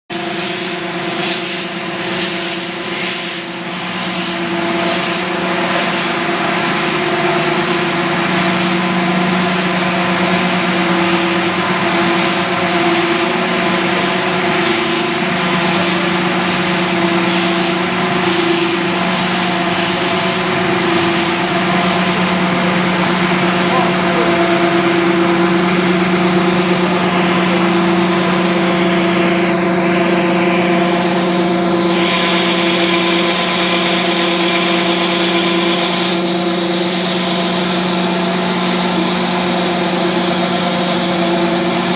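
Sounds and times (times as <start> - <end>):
machinery motor hum: 0.1 - 41.9.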